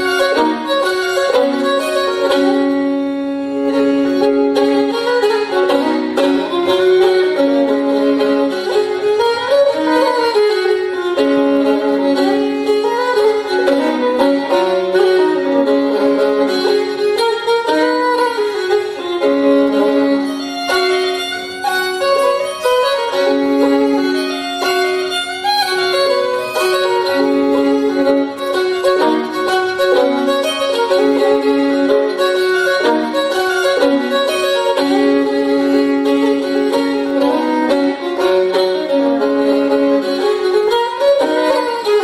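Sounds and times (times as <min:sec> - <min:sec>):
fiddle playing jig melody: 0:00.0 - 0:42.0.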